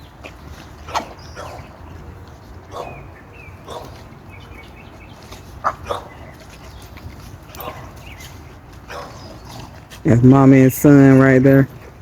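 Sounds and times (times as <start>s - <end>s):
dogs yipping and barking: 0.0s - 10.0s.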